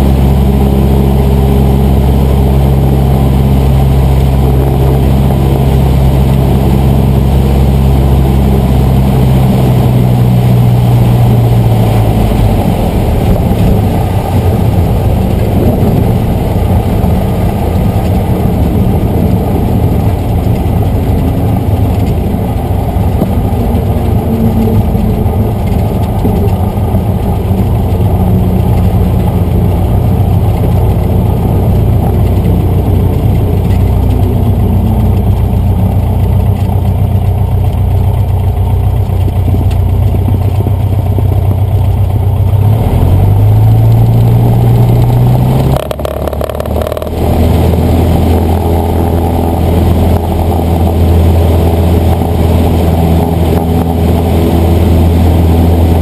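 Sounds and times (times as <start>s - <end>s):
small plane engine and propeller: 0.0s - 56.0s.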